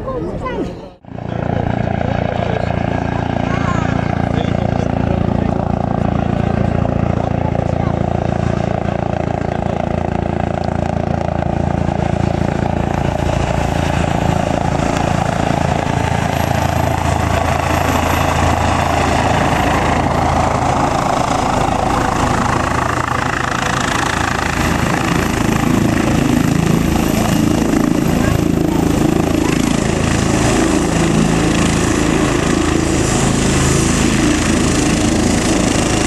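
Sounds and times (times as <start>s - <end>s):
helicopter rotor and turbines: 0.0s - 36.0s.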